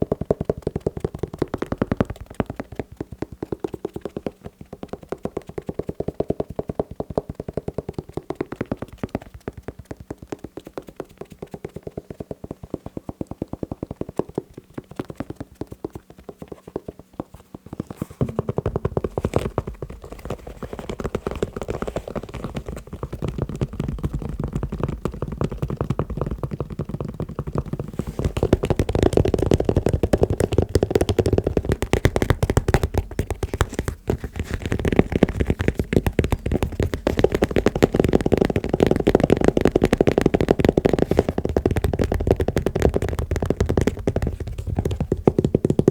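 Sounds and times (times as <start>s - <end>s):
fast tapping on shoes: 0.0s - 45.9s.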